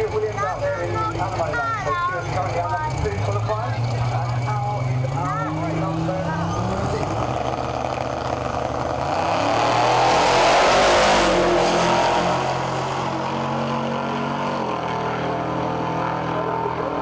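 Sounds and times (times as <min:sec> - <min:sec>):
drag racing cars launching: 0:00.0 - 0:17.0
steady engine hum: 0:00.0 - 0:17.0.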